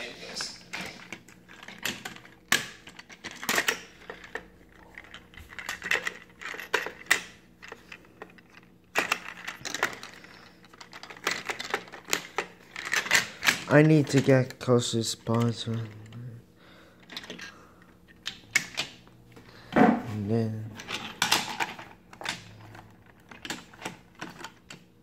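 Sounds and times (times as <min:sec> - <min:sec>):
toy parts clicking and knocking: 0:00.7 - 0:16.4, 0:17.0 - 0:19.1, 0:20.8 - 0:24.9.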